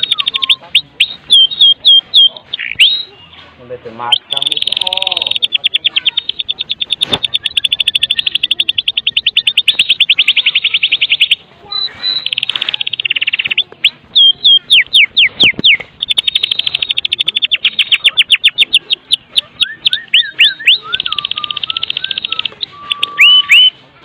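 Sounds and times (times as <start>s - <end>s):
bird singing loudly: 0.0s - 3.4s, 4.0s - 23.8s.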